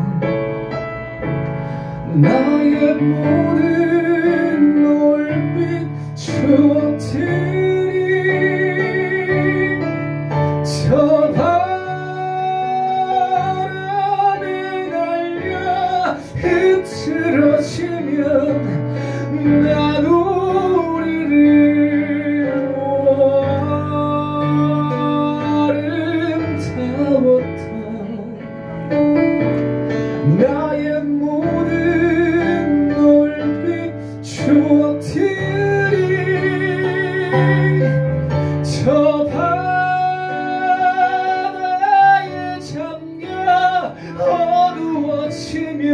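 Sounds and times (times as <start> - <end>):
man singing with vibrato: 0.0 - 0.8, 1.8 - 29.0, 30.1 - 45.9
stage piano chords: 0.0 - 45.9.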